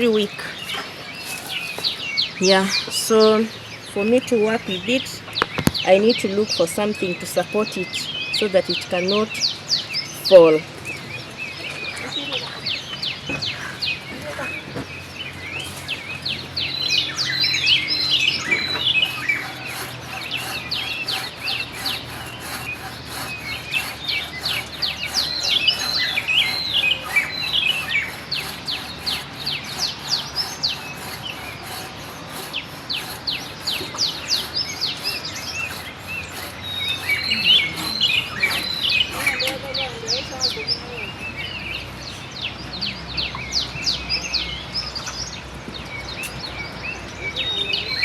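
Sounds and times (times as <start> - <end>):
small birds chirping and singing: 0.0 - 48.0.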